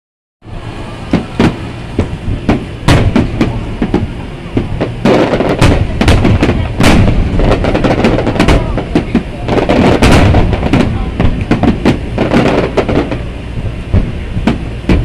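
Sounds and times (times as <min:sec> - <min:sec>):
fireworks shells bursting: 0:01.1 - 0:13.3.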